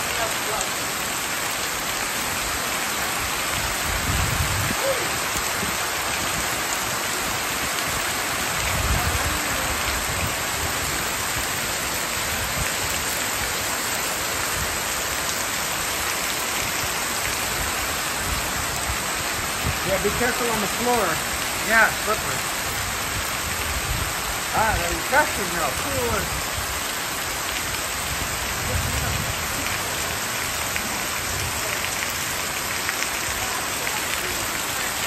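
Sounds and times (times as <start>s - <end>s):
heavy rain on leaves and roof: 0.0s - 35.0s.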